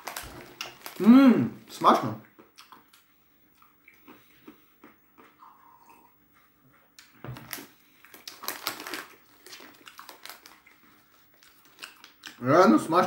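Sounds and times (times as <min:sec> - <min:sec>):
peanuts crunching while chewed: 0:00.0 - 0:05.7, 0:07.0 - 0:12.5.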